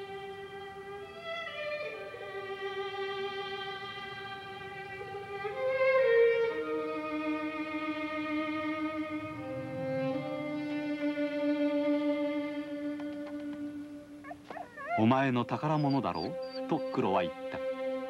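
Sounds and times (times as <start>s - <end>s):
slow violin melody: 0.0s - 14.2s, 16.3s - 18.0s.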